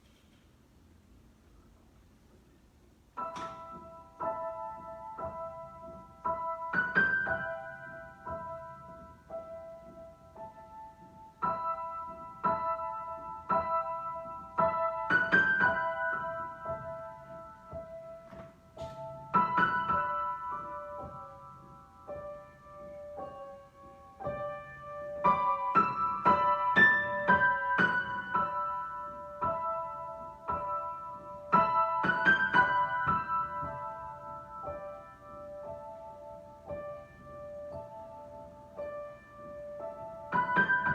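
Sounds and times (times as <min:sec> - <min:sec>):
solo piano: 0:00.0 - 0:40.9.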